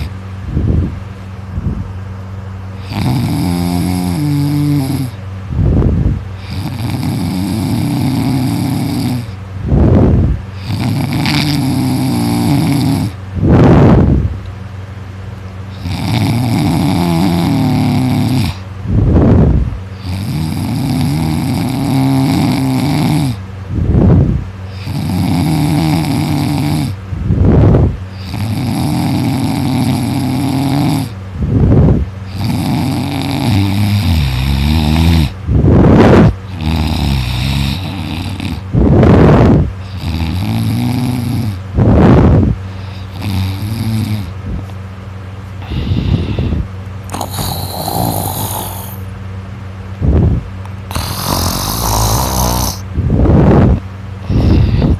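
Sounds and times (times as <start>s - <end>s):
person snoring loudly: 2.8s - 5.2s, 6.4s - 14.1s, 15.7s - 23.4s, 24.0s - 44.4s, 45.6s - 49.1s, 50.9s - 54.9s.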